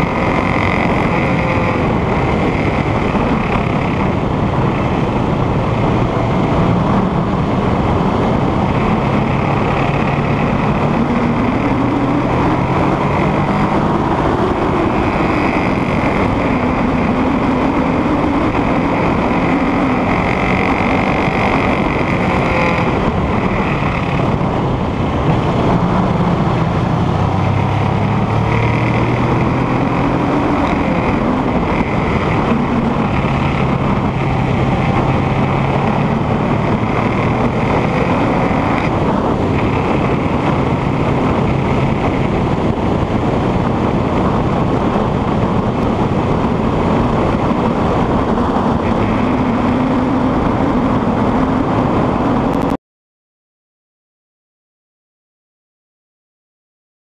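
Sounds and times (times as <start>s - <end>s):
motorcycle engine revving: 0.0s - 52.8s.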